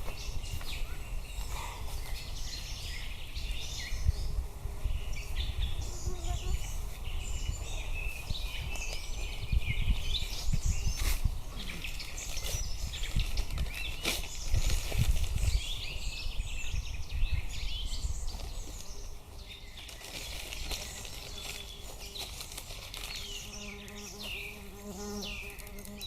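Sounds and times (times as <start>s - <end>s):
wild birds singing and chirping: 0.0s - 26.0s.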